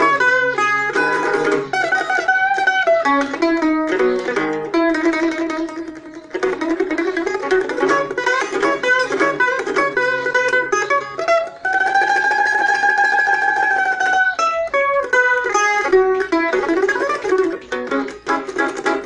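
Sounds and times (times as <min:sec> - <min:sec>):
mandolin playing: 0:00.0 - 0:19.0.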